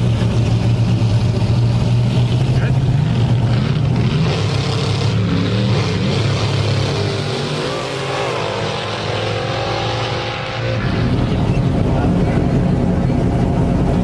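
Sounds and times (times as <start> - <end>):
race car engine rumbling: 0.0 - 14.0.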